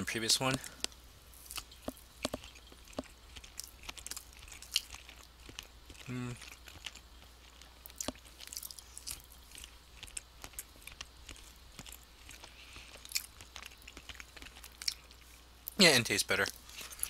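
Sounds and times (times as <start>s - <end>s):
mouth chewing: 0.1s - 15.8s.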